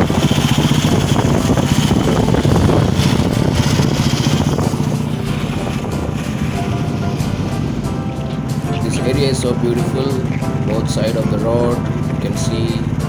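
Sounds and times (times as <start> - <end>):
broad rushing noise: 0.0 - 13.0
motorcycle engine cruising: 0.0 - 13.0.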